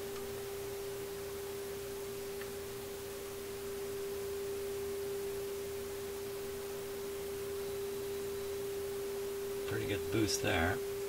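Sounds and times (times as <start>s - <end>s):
steady test tone from radio: 0.3s - 11.0s.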